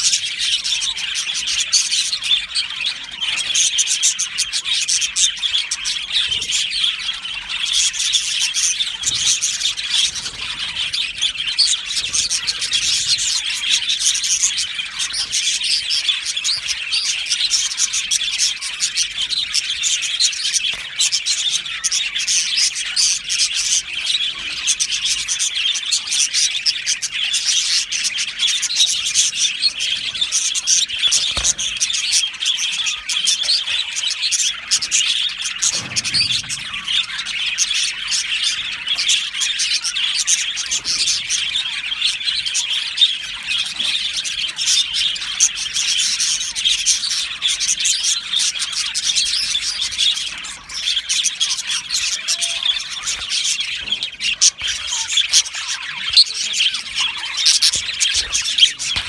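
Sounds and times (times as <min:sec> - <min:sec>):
budgerigars chirping: 0:00.0 - 0:59.0.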